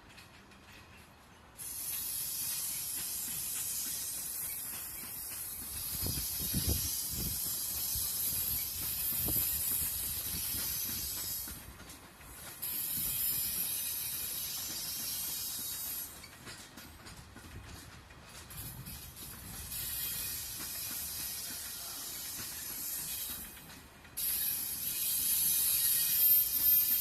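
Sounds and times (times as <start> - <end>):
train cars rolling by: 0.0 - 27.0
wheels thumping over rail joints: 2.5 - 27.0.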